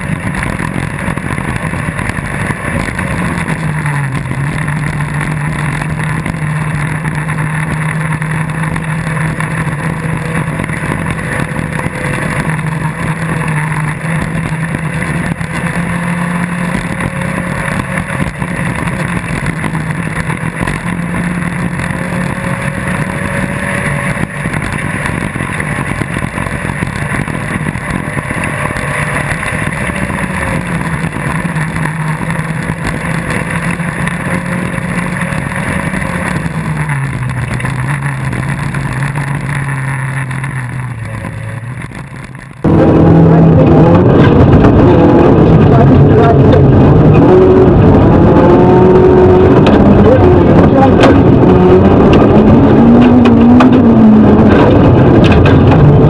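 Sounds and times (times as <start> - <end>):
buggy engine running hard: 0.0 - 56.0
constant rushing noise: 0.0 - 56.0.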